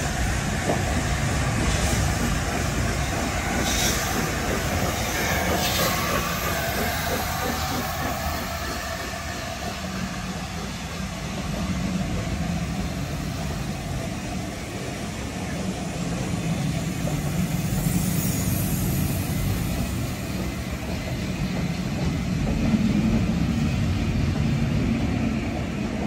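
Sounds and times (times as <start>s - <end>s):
rumble of wheels on rail: 0.0s - 26.0s
steam locomotive passing: 0.0s - 26.0s.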